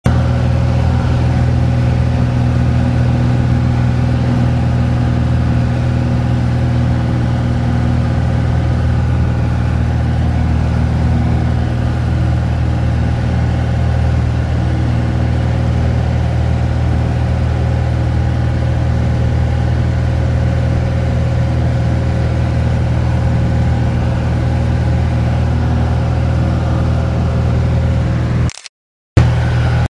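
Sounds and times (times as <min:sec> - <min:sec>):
airplane engines droning: 0:00.1 - 0:28.6, 0:29.2 - 0:29.9.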